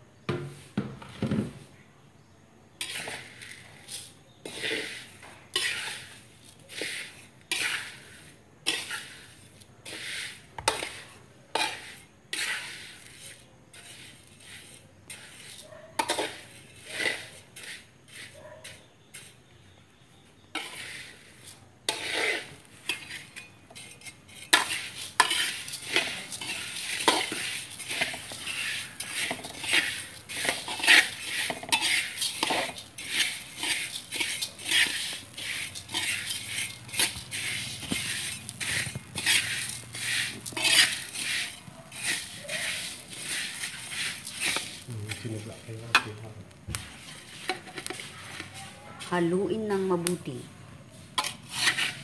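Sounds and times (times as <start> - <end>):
metal spatula scraping a wok: 2.8 - 52.0.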